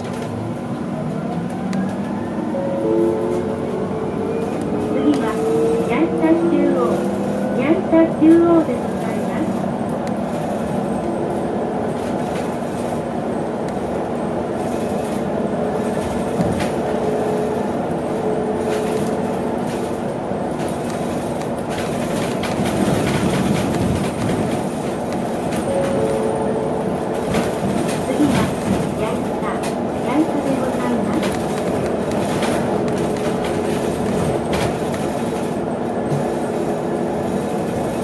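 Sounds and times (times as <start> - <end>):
road and tyre rumble: 0.0 - 38.0.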